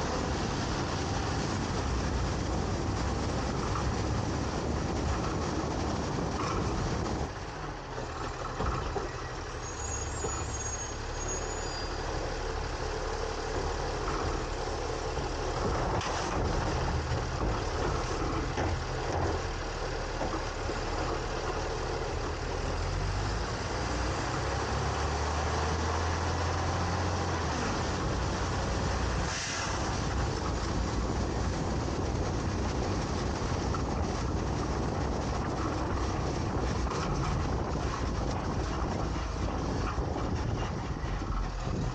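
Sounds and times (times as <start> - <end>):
garbage truck engine running: 0.0 - 41.9.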